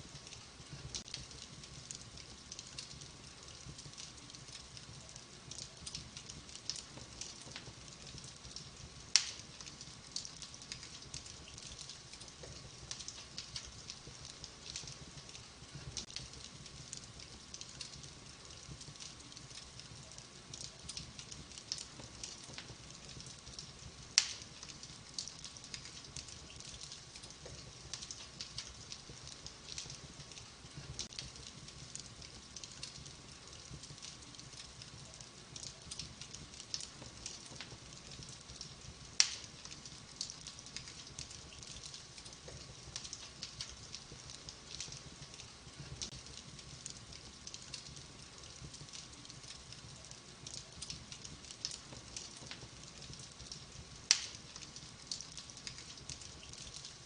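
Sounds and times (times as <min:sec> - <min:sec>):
loud fire pops: 0:00.0 - 0:57.0
wood fire crackling in fireplace: 0:00.0 - 0:57.0.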